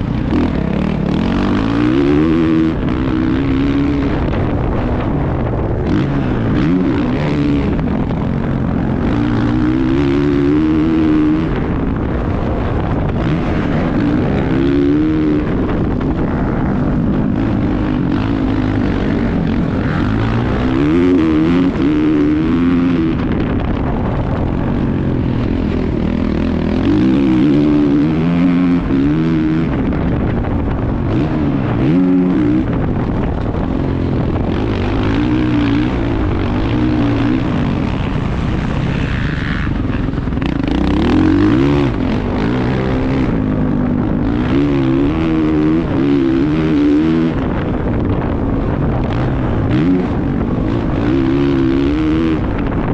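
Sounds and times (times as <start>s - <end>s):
motocross bike engine revving: 0.0s - 52.9s
wind rushing: 0.0s - 52.9s.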